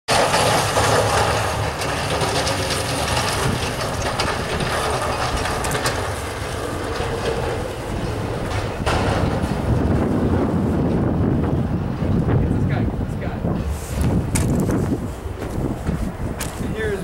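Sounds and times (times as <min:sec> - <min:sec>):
plow blade scraping road: 0:00.1 - 0:12.4, 0:13.5 - 0:17.0
truck engine: 0:00.1 - 0:17.0.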